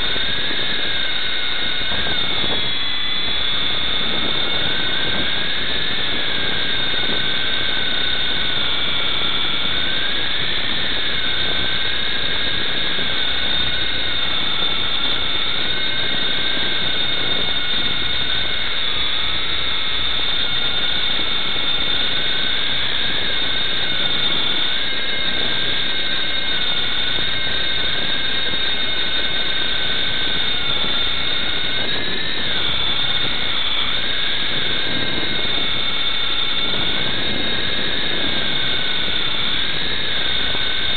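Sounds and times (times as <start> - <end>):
rc helicopter motor whining: 0.0 - 40.9.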